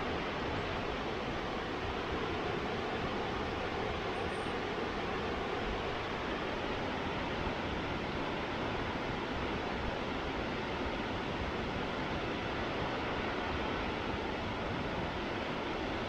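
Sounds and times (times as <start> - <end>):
waterfall and rapids roaring: 0.0 - 16.0.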